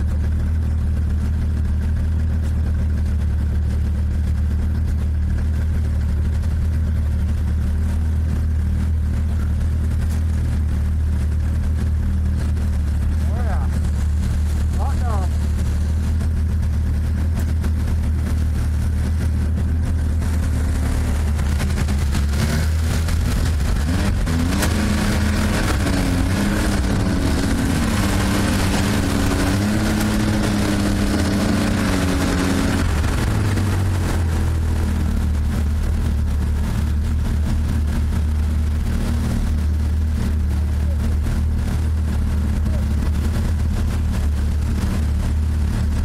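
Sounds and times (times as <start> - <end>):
snowmobile engine idling: 0.0 - 46.0
second engine revving: 7.2 - 46.0.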